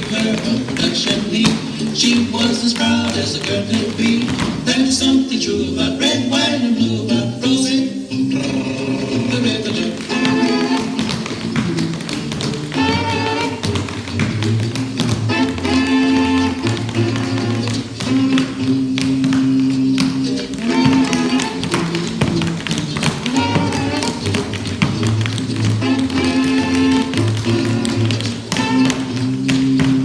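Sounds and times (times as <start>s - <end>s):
tap shoes clicking on stage: 0.0s - 5.4s, 8.9s - 30.0s
loud recorded music: 0.0s - 30.0s.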